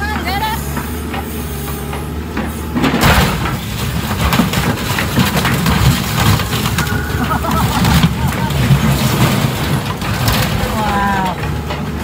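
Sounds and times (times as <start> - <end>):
diesel engine running: 0.0 - 12.0
metal crunching and creaking: 0.2 - 12.0.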